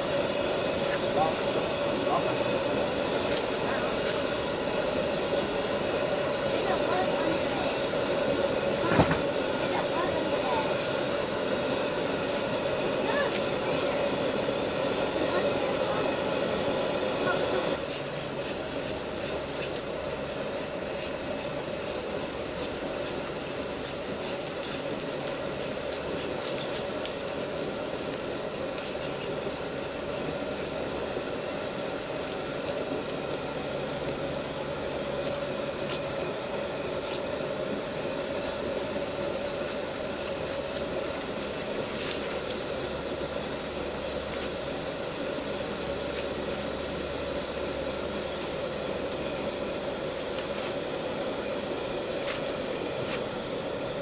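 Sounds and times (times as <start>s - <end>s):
steady mechanical hum and hiss: 0.0s - 54.0s.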